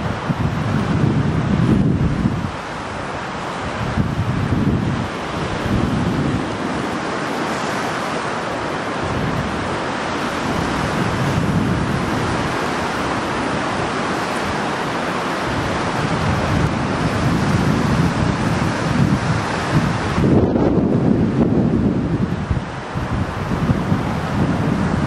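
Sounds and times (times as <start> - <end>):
wind gusts on microphone: 0.0 - 25.0
wind rushing: 0.0 - 25.0.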